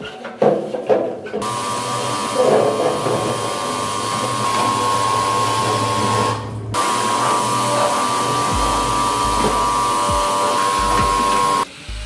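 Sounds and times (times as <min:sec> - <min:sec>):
pressure washer spraying: 0:01.4 - 0:12.0.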